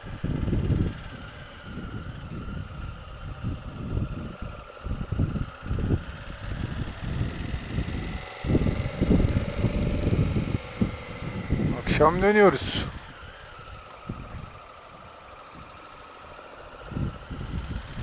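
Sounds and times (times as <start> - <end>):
gusty wind noise: 0.0 - 15.8, 16.8 - 18.0
motorcycle engine running: 0.0 - 18.0.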